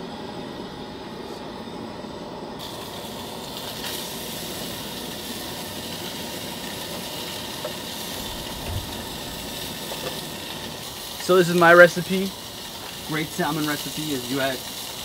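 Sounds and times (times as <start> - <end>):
camp stove burner rushing: 0.0 - 15.0
fish sizzling in a pan: 2.6 - 15.0.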